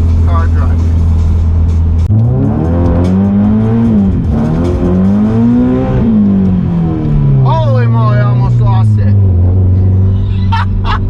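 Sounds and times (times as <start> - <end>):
car engine revving hard: 2.1 - 11.0.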